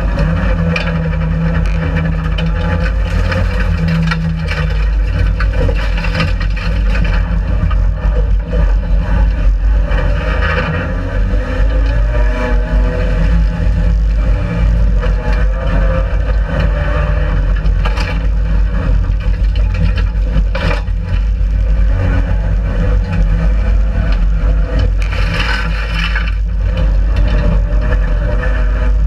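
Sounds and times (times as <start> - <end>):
gravel rattling against car body: 0.0 - 29.0
race car engine running hard: 0.0 - 29.0.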